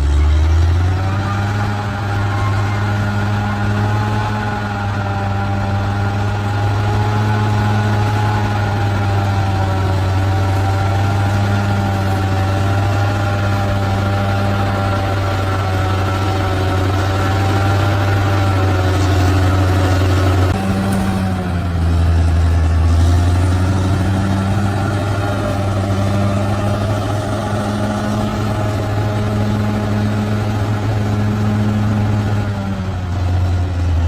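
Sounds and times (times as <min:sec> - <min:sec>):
bulldozer diesel engine running: 0:00.0 - 0:34.0.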